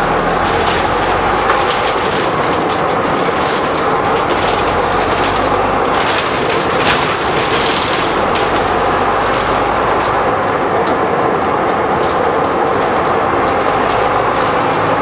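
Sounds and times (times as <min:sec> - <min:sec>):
bus body rattling: 0:00.0 - 0:15.0
bus engine and drivetrain noise: 0:00.0 - 0:15.0.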